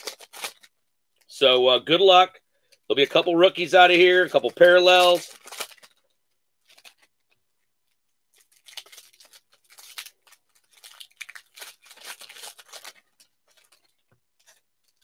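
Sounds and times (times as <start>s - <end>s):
wrapper crinkling and tearing: 0.0s - 1.3s, 3.5s - 15.0s.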